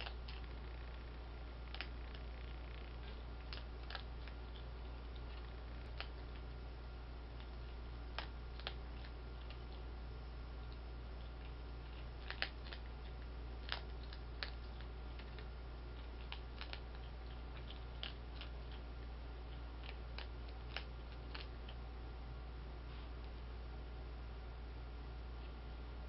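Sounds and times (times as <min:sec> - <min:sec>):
animals crunching dry food: 0:00.0 - 0:10.0, 0:10.6 - 0:21.8
steady low hum: 0:00.0 - 0:26.0.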